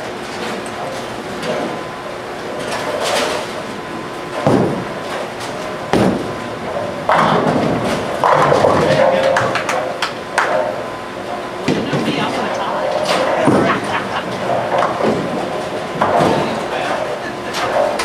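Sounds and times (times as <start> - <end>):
bowling pins clattering: 2.4 - 18.0.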